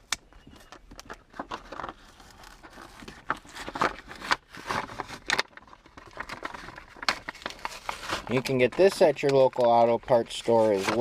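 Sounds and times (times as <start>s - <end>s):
packaging crinkling and tearing: 0.6s - 11.0s.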